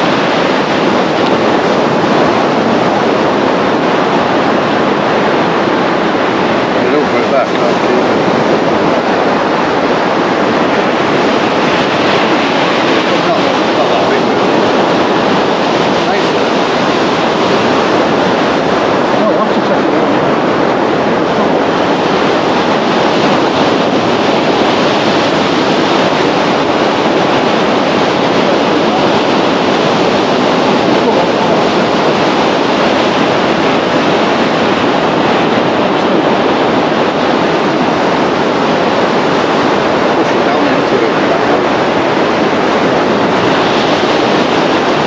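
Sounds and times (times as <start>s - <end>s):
surf breaking on beach: 0.0s - 45.0s.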